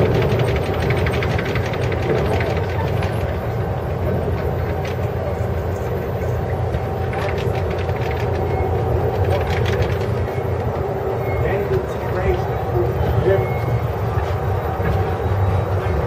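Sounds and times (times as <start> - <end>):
train car rumble: 0.0 - 16.0.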